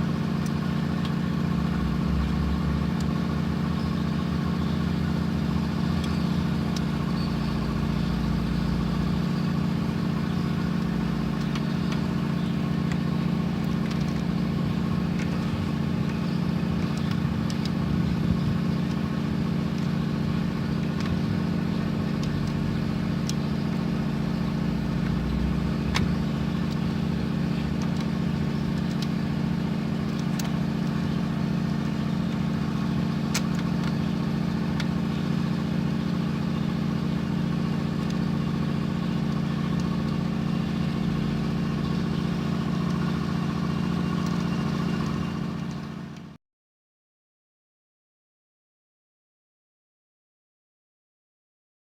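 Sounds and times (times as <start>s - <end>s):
pickup engine idling: 0.0s - 46.4s.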